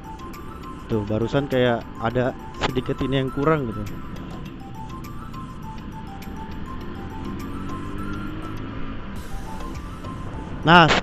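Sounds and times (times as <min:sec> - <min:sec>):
melody over light steady beat: 0:00.0 - 0:11.0.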